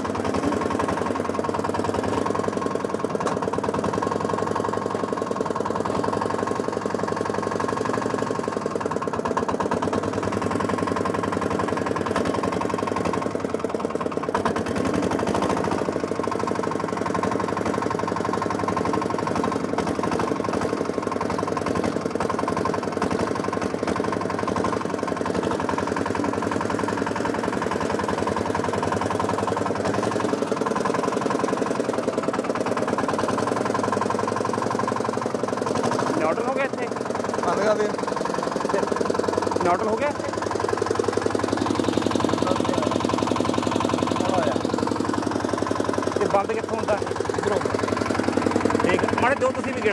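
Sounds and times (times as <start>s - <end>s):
small tractor engine chugging: 0.0s - 49.9s.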